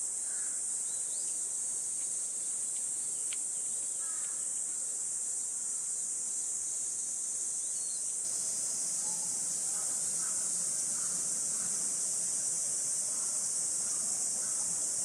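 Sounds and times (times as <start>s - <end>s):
insect chorus buzzing: 0.0s - 15.0s.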